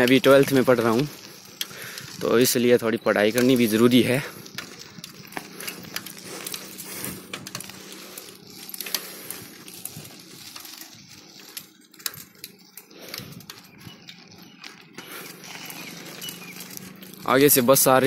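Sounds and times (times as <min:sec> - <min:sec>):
bicycle rattling clicks: 0:00.0 - 0:18.0.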